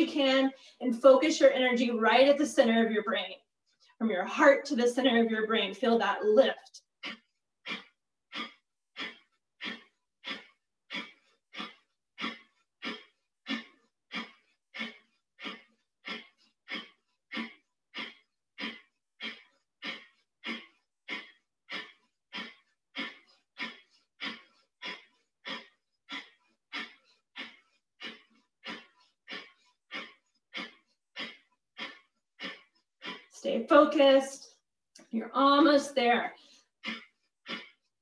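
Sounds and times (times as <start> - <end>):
woman's forceful rhythmic breathing: 0.0 - 38.0.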